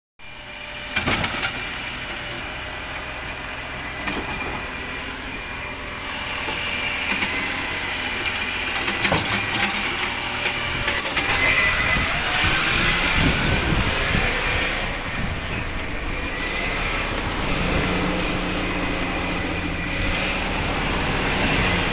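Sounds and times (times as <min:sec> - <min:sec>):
rubbish truck engine: 0:00.2 - 0:21.9.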